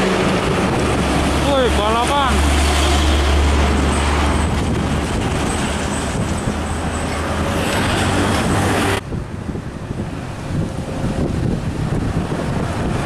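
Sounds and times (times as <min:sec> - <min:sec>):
diesel truck engine rumble: 0:00.0 - 0:13.0
tyre and road noise: 0:00.0 - 0:13.0.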